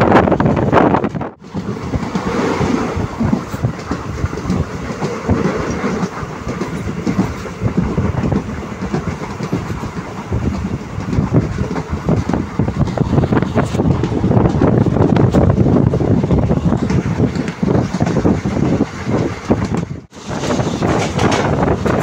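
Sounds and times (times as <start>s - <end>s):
train rumble inside coach: 0.0s - 22.0s
wheels clattering over rails: 0.9s - 22.0s.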